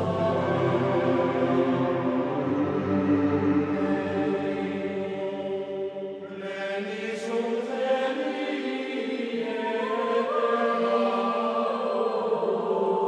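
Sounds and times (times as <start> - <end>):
choral chant: 0.0 - 13.0.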